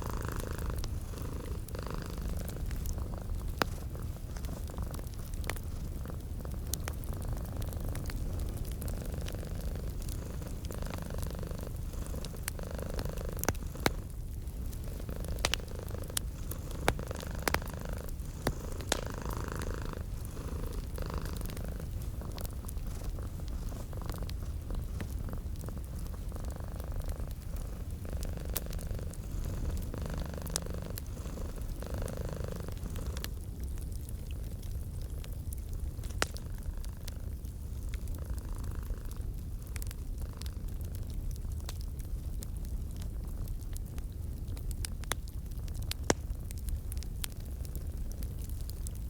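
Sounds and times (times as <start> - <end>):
cat purring: 0.0 - 41.4
wood fire crackling: 0.0 - 49.0.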